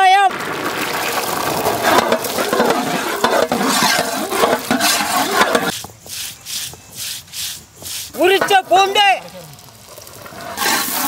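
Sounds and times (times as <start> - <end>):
shallots sizzling in oil: 1.3 - 11.0.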